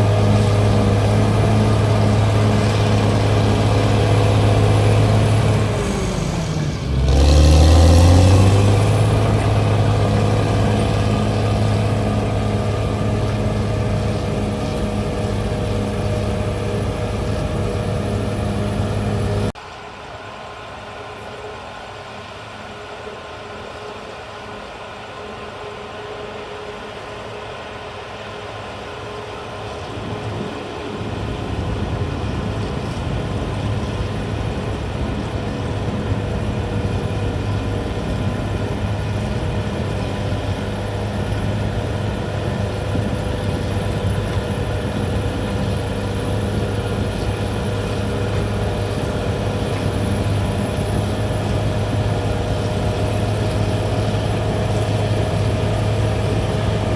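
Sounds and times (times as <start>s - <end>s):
bulldozer diesel engine running: 0.0s - 19.6s, 28.3s - 56.9s.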